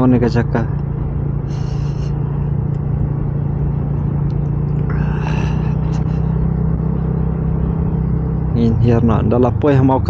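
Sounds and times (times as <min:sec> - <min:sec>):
engine running with low drone: 0:00.0 - 0:10.0.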